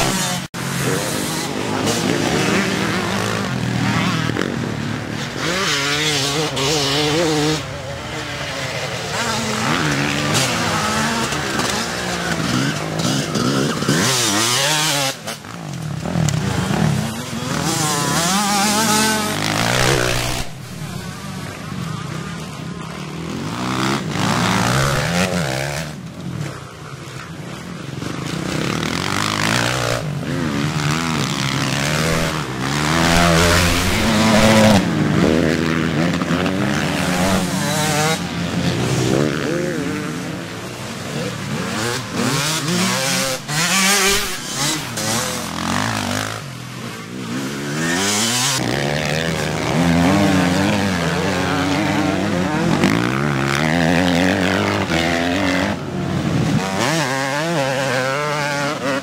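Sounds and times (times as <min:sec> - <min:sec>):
motocross bikes revving past: 0:00.0 - 0:59.0.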